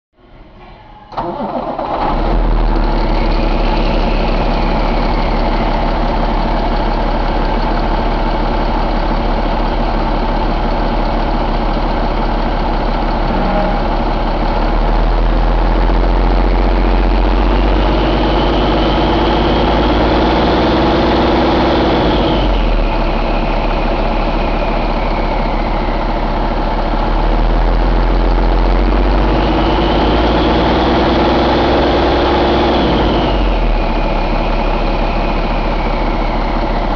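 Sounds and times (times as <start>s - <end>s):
diesel engine idling with whine: 0.3s - 36.9s.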